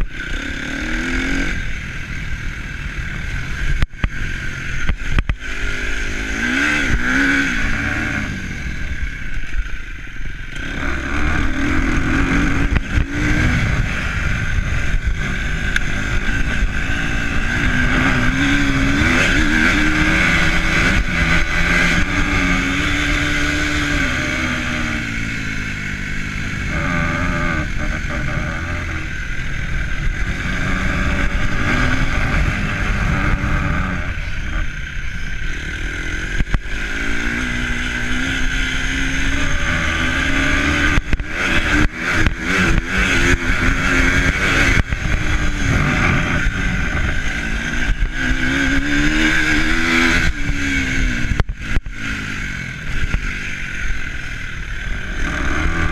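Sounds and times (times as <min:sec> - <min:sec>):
vehicle engine revving: 0:00.0 - 0:55.9
wind and road noise: 0:00.0 - 0:55.9.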